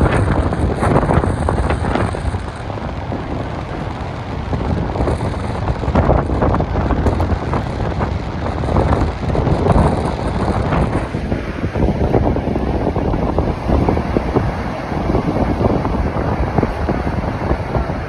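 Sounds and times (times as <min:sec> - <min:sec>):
steady rushing noise: 0:00.0 - 0:18.0
wind buffeting the microphone: 0:00.0 - 0:18.0.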